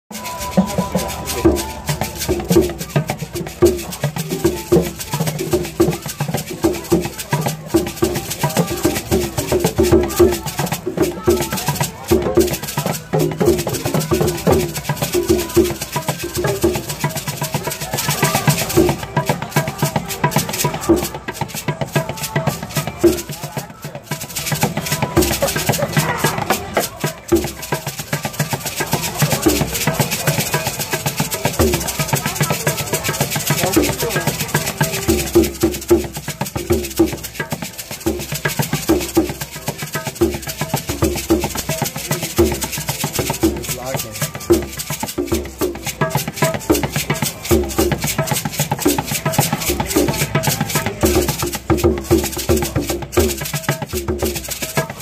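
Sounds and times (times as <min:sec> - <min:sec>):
hand drum hits: 0:00.1 - 0:55.0
wooden percussion rattling: 0:00.1 - 0:55.0.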